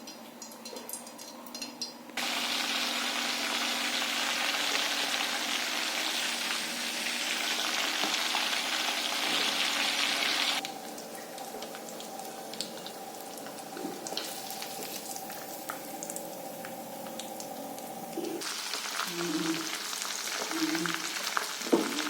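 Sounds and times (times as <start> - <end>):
chicken sizzling in hot oil: 2.2 - 22.0.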